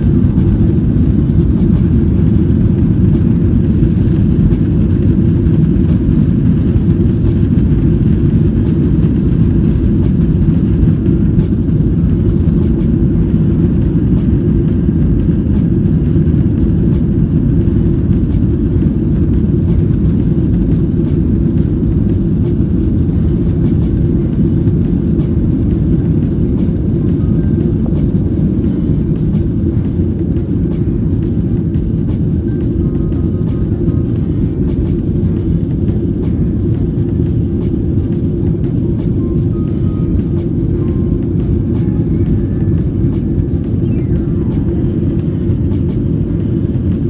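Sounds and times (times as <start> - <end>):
airplane cabin rumble: 0.0 - 47.0.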